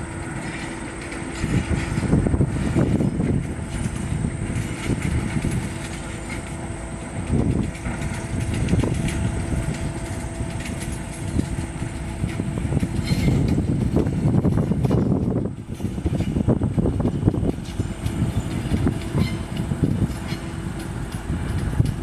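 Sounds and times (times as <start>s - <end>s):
diesel locomotive engine rumble: 0.0s - 22.0s
locomotive clunks on track: 0.0s - 22.0s.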